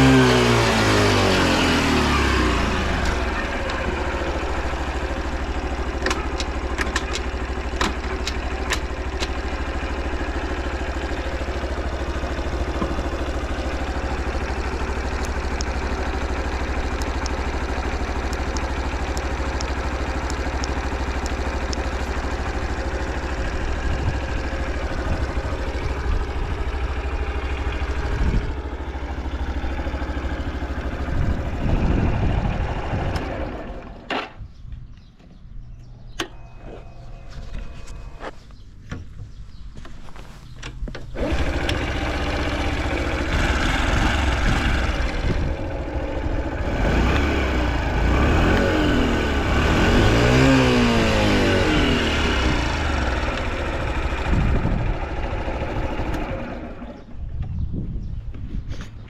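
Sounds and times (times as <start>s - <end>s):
small motorcycle engine idling: 0.0s - 59.0s.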